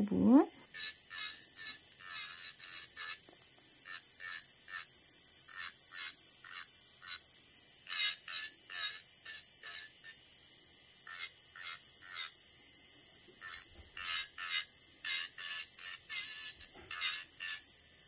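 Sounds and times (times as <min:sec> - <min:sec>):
electric nail drill whine: 0:00.0 - 0:18.0.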